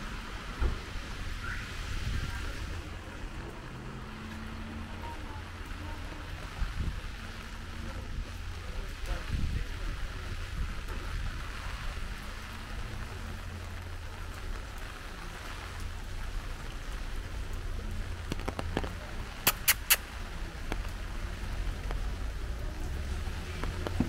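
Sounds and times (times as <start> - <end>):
rain on wet street: 0.0 - 24.0.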